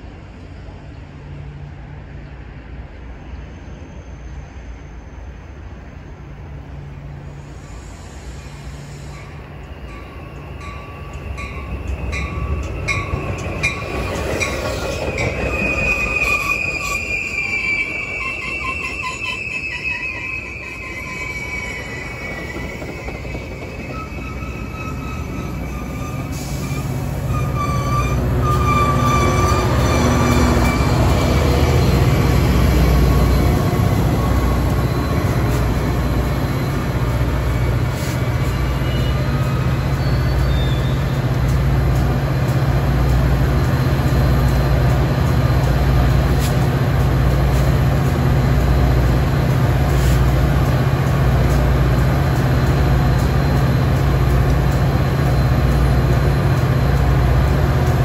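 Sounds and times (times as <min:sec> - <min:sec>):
diesel locomotive drone: 0:00.0 - 0:58.0
train brakes squealing: 0:07.2 - 0:58.0.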